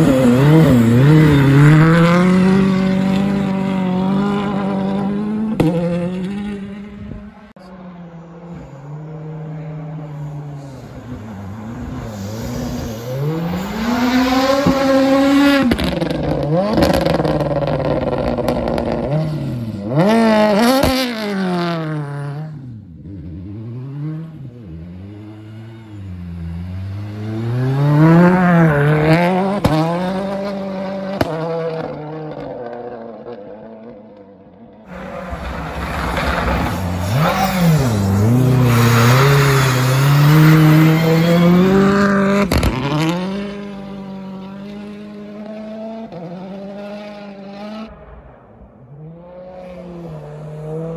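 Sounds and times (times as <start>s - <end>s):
rally car engine revving: 0.0s - 7.5s, 8.2s - 34.2s, 34.9s - 50.9s.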